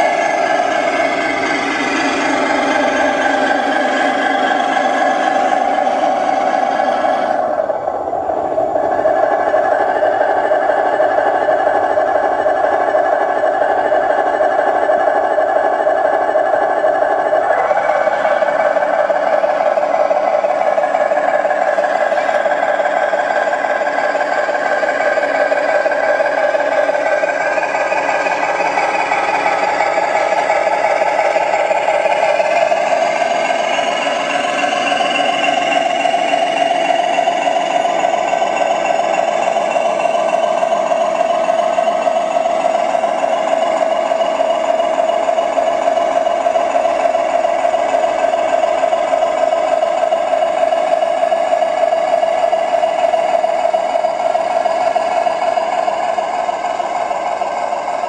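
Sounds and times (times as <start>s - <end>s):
model motor whine: 0.0s - 58.0s.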